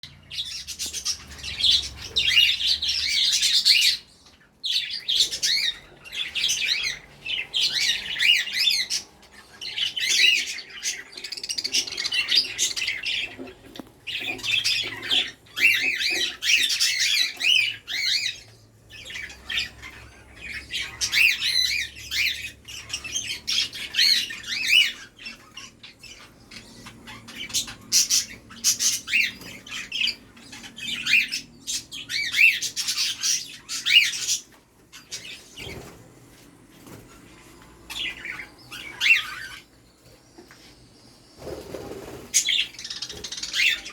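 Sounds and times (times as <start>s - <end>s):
budgerigars chirping: 0.0s - 36.0s, 37.8s - 39.8s, 41.4s - 43.9s.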